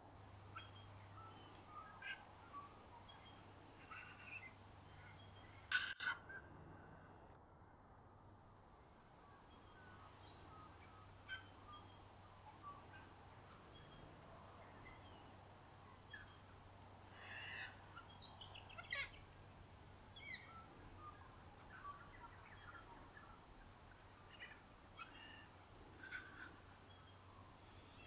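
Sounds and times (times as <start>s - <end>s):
wild birds chirping and calling: 0.0s - 7.4s, 9.2s - 28.0s
low steady hum: 0.0s - 28.0s.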